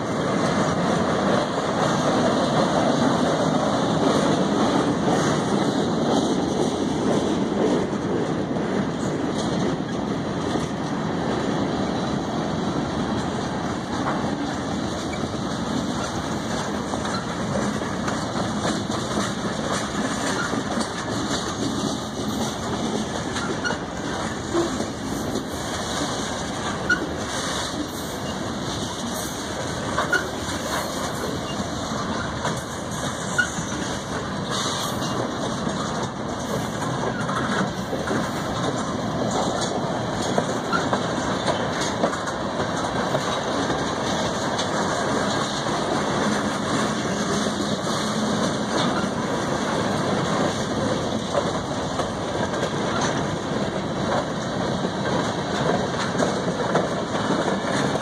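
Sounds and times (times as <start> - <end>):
freight car wheels rumbling: 0.0 - 58.0.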